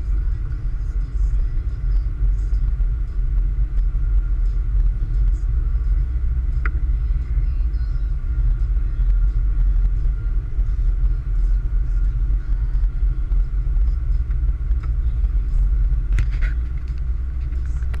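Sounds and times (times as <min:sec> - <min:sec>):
car engine and road rumble: 0:00.0 - 0:18.0
faint steady whine: 0:00.0 - 0:18.0.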